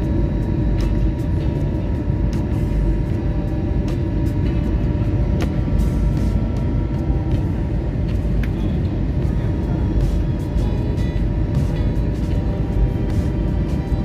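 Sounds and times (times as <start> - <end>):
jet engine and airflow rumble: 0.0 - 14.0.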